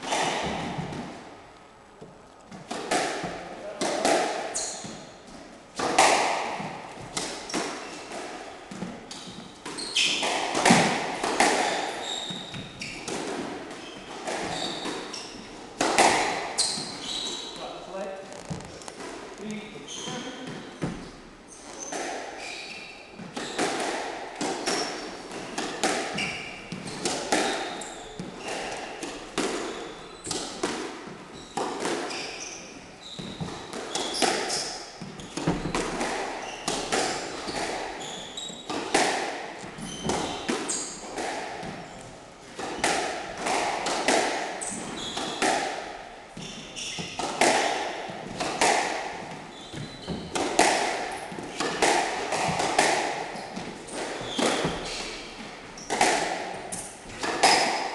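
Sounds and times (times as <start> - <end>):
squash ball smacking: 0.0 - 1.4, 2.0 - 22.4, 23.1 - 57.9
shoes squeaking on wooden floor: 4.5 - 23.8, 24.6 - 43.6, 44.6 - 57.9.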